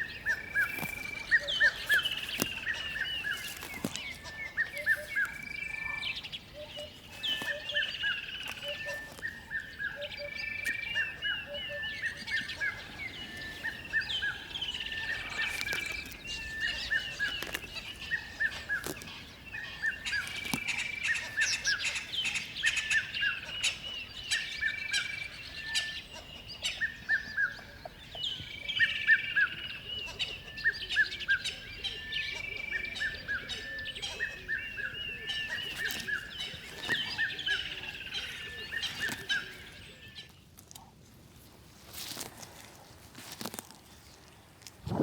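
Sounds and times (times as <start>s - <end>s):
birds chirping and calling: 0.0s - 40.4s.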